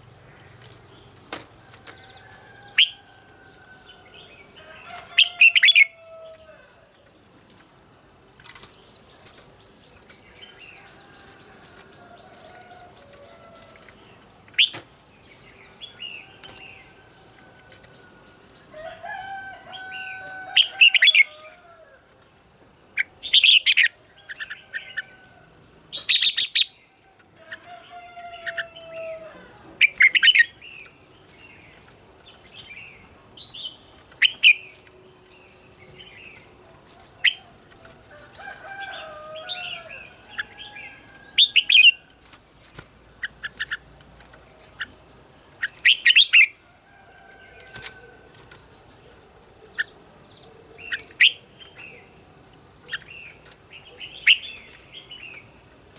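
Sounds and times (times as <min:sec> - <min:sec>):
bulbuls singing: 0:00.0 - 0:55.9.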